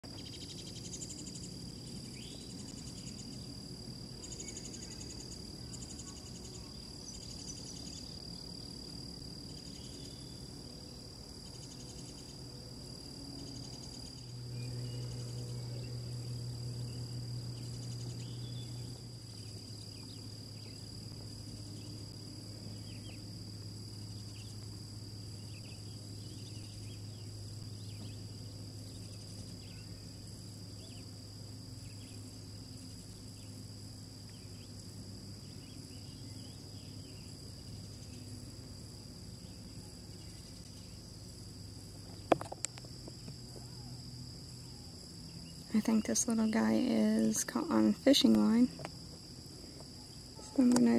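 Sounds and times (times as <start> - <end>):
high-pitched insect chorus: 0.0 - 50.9
low steady hum: 0.0 - 50.9.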